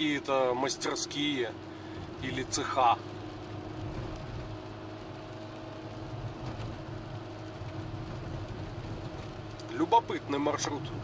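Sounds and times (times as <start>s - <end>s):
car engine hum: 0.0s - 11.0s
tyre noise on wet road: 0.0s - 11.0s.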